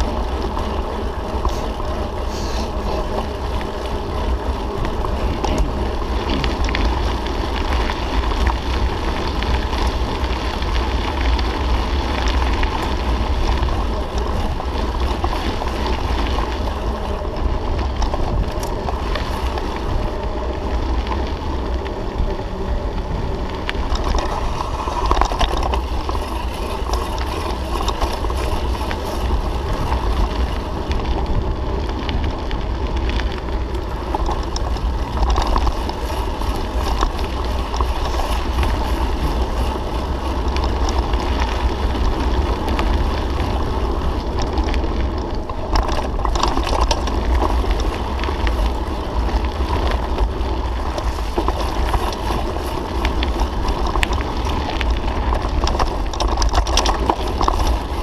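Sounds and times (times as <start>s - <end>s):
bike rattles and clicks: 0.0s - 58.0s
bike tyres on gravel: 0.0s - 58.0s
wind rumble on microphone: 0.0s - 58.0s.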